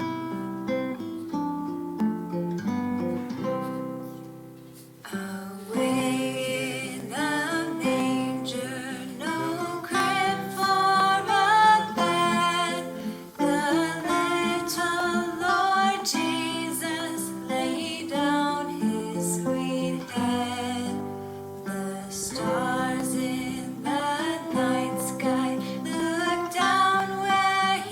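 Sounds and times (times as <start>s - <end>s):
acoustic guitar: 0.0s - 27.9s
person singing worship song: 4.8s - 27.9s.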